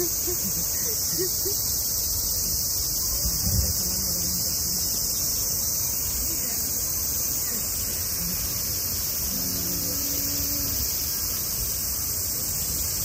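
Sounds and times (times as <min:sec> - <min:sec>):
cicada chorus hissing: 0:00.0 - 0:13.0
faint voices: 0:02.3 - 0:13.0.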